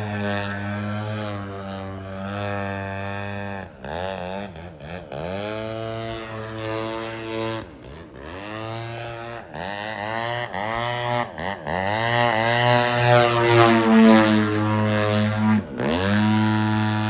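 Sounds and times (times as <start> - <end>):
model airplane engine and propeller: 0.0 - 17.0.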